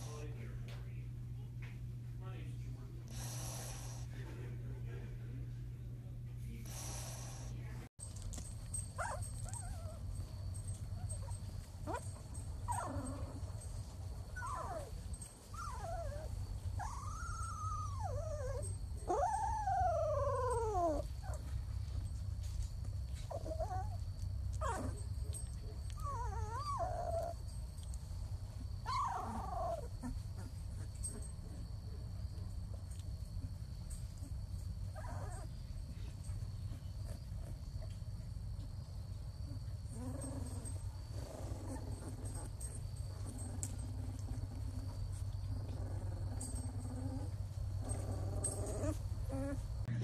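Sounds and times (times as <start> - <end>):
steady low hum: 0.0 - 50.0
puppies whimpering and squeaking: 8.2 - 38.6, 39.4 - 49.9.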